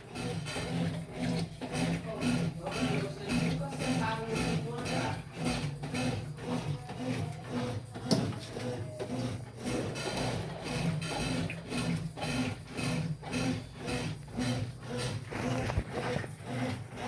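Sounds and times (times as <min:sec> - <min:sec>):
rhythmic mechanical rubbing: 0:00.0 - 0:17.0
washing machine low hum: 0:00.0 - 0:17.0.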